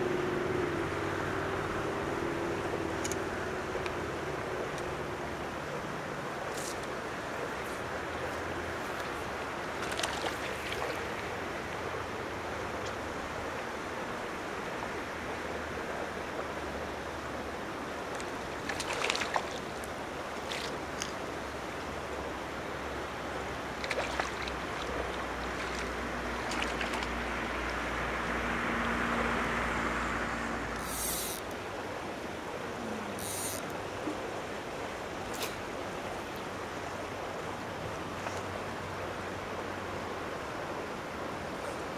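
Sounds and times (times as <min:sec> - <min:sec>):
water: 0:00.0 - 0:41.9
wind: 0:00.0 - 0:41.9.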